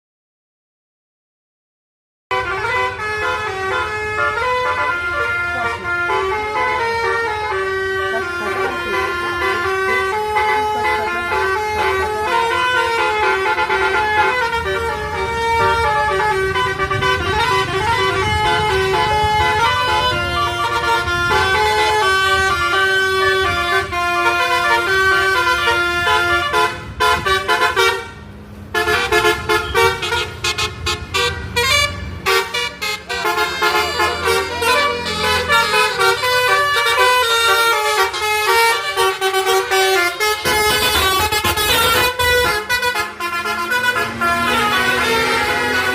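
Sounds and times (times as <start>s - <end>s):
multi-tone bus horn tune: 2.3s - 45.9s.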